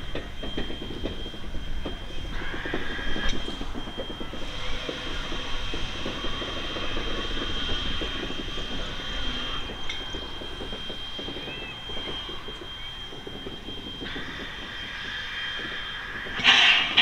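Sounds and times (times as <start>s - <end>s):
high-pitched whine: 0.0s - 17.0s
steam locomotive rumbling and clanking: 0.0s - 17.0s.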